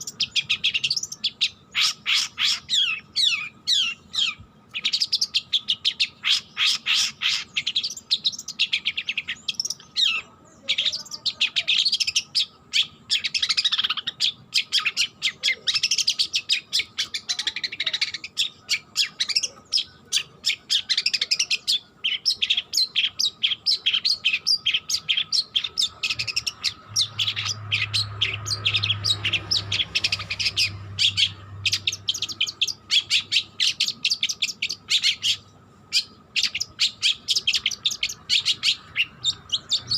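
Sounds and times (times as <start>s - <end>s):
shrike singing chirps and twitters: 0.0s - 39.9s.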